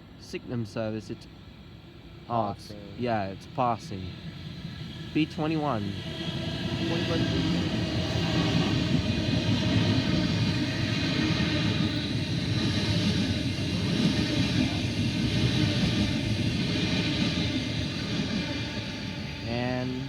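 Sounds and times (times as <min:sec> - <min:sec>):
train wheels rumbling on rails: 0:02.3 - 0:20.0.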